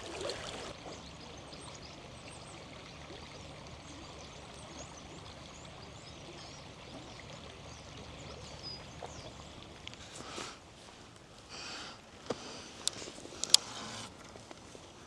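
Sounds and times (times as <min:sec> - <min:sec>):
river water babbling: 0:00.0 - 0:15.0.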